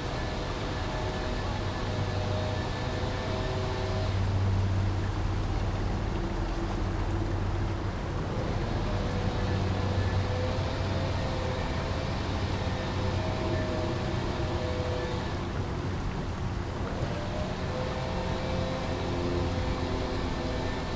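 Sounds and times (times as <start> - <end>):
low hum of vehicles: 0.0 - 20.9.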